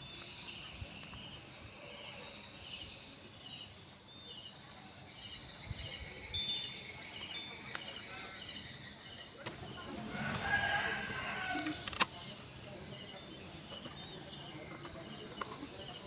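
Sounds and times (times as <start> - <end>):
faint rhythmic chirping: 0.0 - 16.0.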